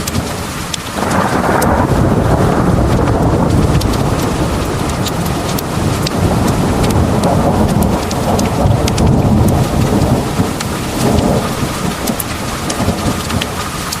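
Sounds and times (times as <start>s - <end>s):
low rumble of thunder: 0.0s - 13.9s
pouring rain: 0.0s - 14.0s
raindrops ticking: 0.0s - 14.0s.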